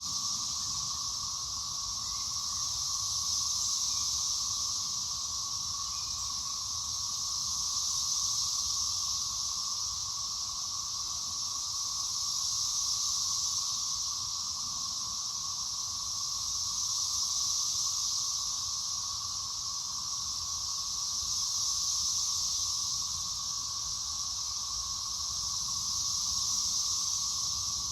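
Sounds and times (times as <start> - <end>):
cicadas droning: 0.0 - 27.9.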